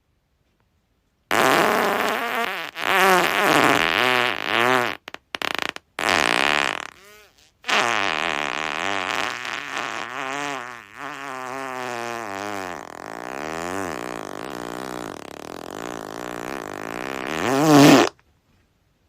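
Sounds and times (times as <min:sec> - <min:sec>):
long wavering fart: 0:01.3 - 0:18.2.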